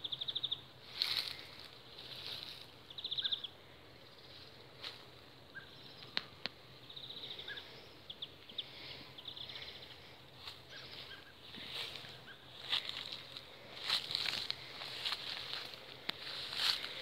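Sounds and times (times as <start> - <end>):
faint ambient hiss: 0.0 - 17.0
songbirds trilling and chirping: 0.0 - 17.0.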